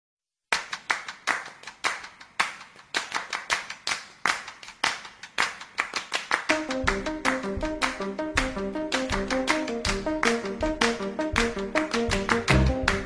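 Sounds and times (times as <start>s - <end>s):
rhythmic claps: 0.5s - 13.0s.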